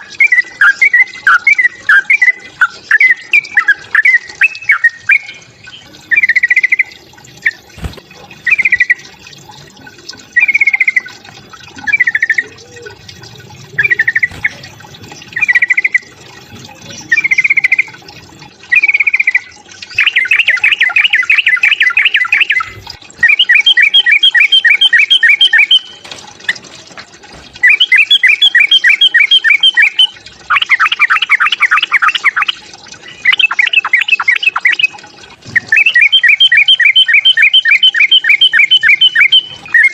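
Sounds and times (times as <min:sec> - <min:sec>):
bird chattering and trilling: 0:00.0 - 0:09.1, 0:10.3 - 0:11.2, 0:11.8 - 0:18.0, 0:18.7 - 0:26.0, 0:27.6 - 0:39.9.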